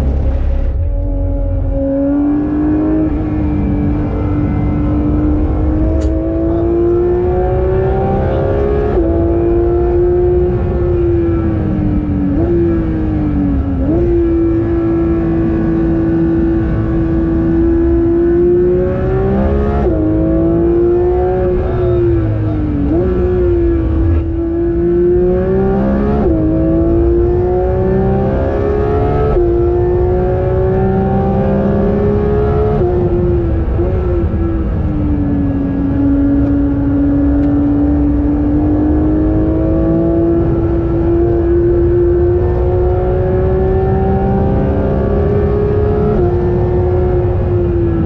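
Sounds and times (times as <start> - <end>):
car engine at full throttle: 0.0 - 48.0
road and tyre noise: 0.0 - 48.0.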